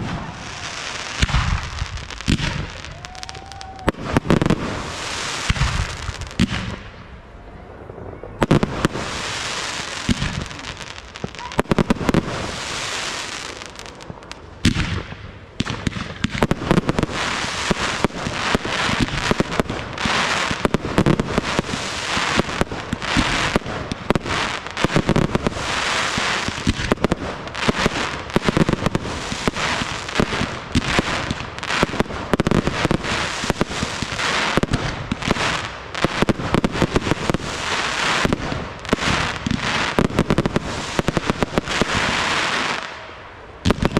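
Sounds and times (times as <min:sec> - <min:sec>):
fireworks bangs: 0:00.0 - 0:43.9
fireworks crackle: 0:00.0 - 0:43.9.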